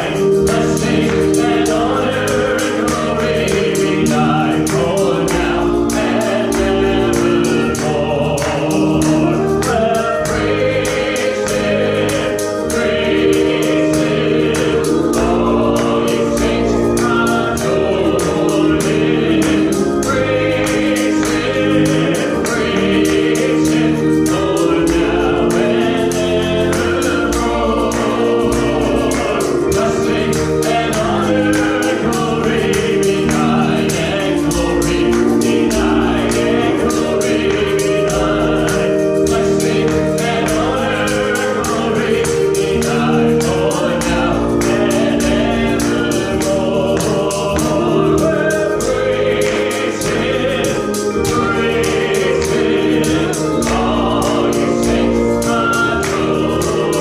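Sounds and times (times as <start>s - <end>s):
group singing gospel song: 0.0s - 57.0s
instrumental accompaniment with beat: 0.0s - 57.0s
man leading singing at microphone: 0.0s - 57.0s.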